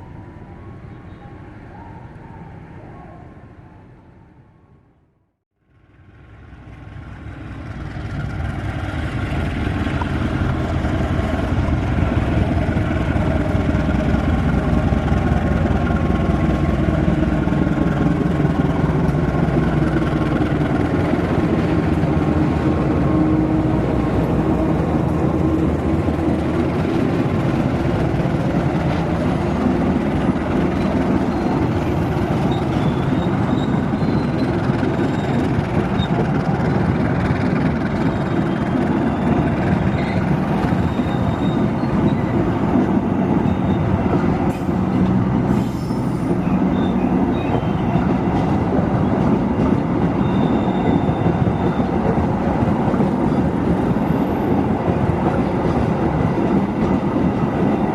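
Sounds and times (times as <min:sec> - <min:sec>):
diesel locomotive hauling train: 0:00.0 - 0:04.7, 0:05.6 - 0:57.9.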